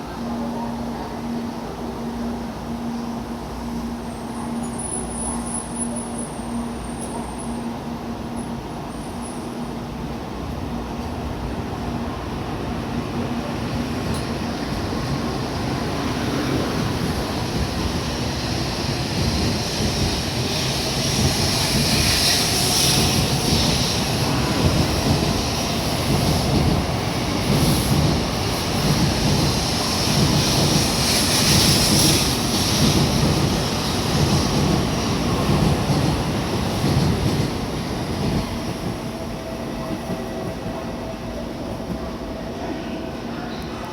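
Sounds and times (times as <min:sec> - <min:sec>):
train running past: 0:00.0 - 0:43.9.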